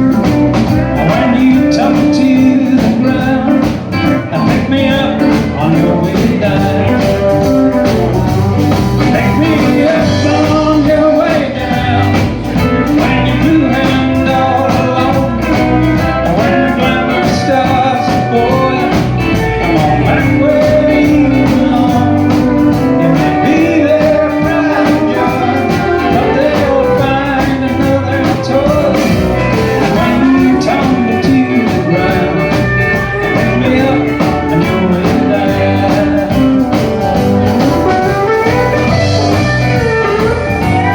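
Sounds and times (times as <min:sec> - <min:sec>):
guitars: 0:00.0 - 0:40.9
live country band playing: 0:00.0 - 0:40.9
steady drum beat: 0:00.0 - 0:40.9.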